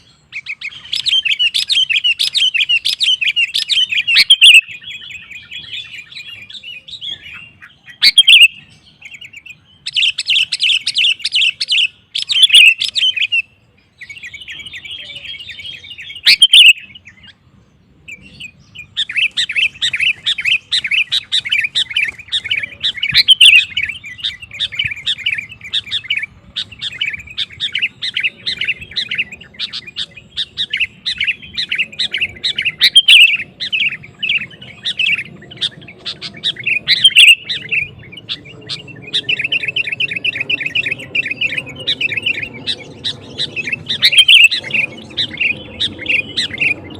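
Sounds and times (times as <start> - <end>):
bulbul singing: 0.0 - 46.9.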